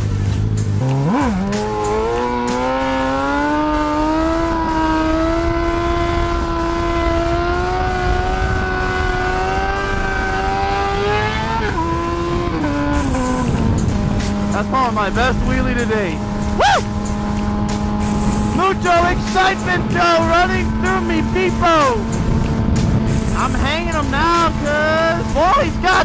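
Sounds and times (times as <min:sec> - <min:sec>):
motorcycle engine revving: 0:00.0 - 0:26.0
wind noise: 0:04.9 - 0:26.0.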